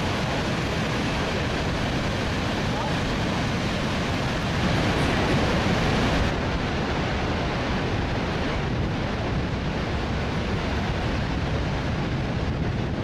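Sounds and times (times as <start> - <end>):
waterfall rushing: 0.0 - 12.5
wind buffeting microphone: 0.0 - 13.0.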